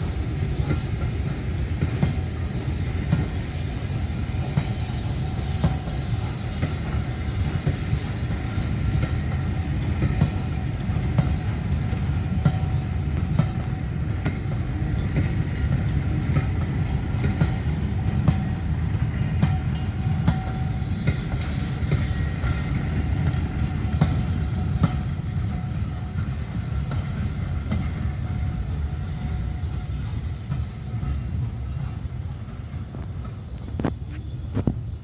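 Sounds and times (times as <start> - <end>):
train rumbling along track: 0.0 - 35.0.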